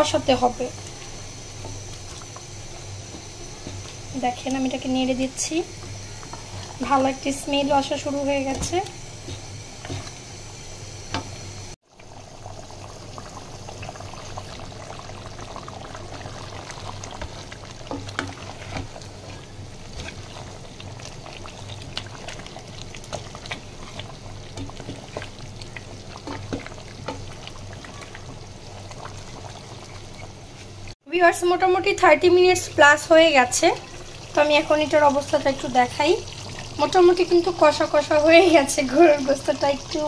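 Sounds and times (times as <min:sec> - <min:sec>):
curry bubbling and sizzling: 0:00.0 - 0:40.0.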